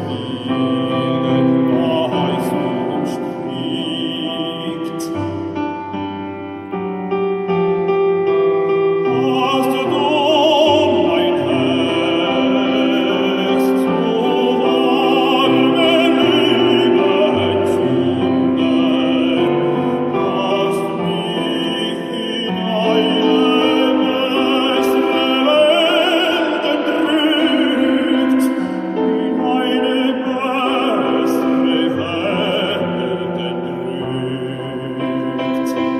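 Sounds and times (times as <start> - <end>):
operatic baritone singing: 0.0 - 35.9
piano accompaniment: 0.0 - 35.9.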